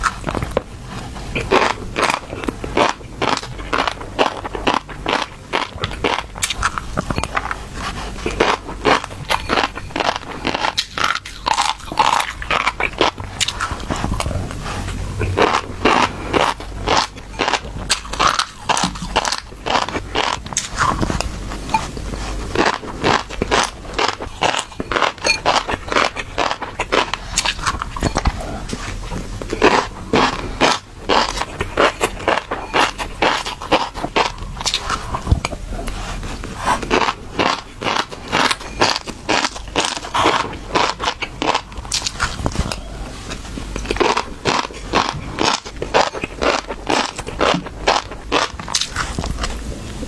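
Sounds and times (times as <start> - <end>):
fish roe crackling and popping: 0.0 - 50.0.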